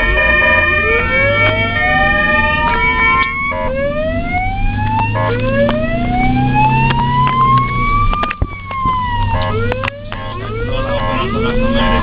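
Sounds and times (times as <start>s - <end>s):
ambulance siren wailing: 0.0s - 12.0s
traffic hum: 0.0s - 12.0s.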